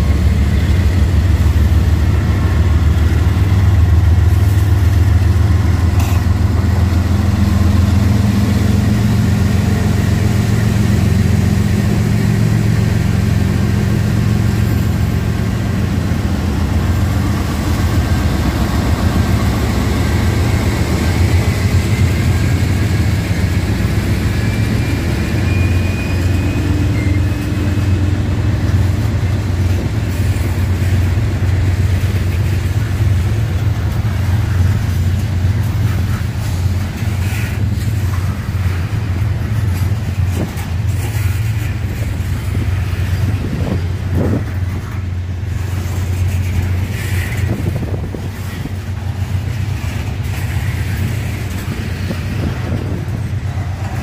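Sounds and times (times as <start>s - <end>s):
diesel locomotives rumbling past: 0.0s - 54.0s
hopper cars rolling on rails: 0.0s - 54.0s.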